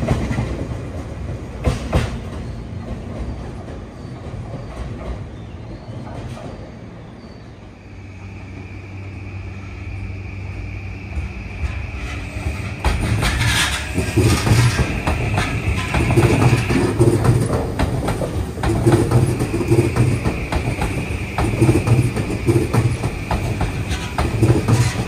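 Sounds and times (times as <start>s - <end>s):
train wheels clattering over joints: 0.0s - 6.7s, 11.0s - 25.0s.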